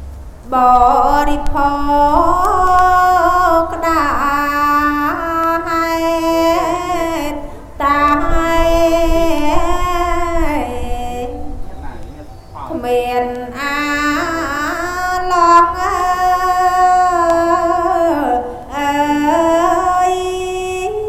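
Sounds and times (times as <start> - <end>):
person chanting a poem: 0.4 - 21.0.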